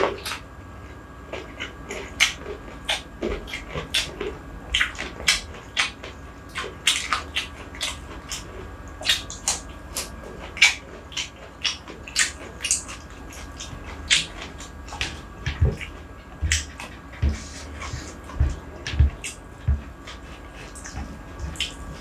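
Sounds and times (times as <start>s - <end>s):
wet mouth chewing smacks: 1.3s - 22.0s.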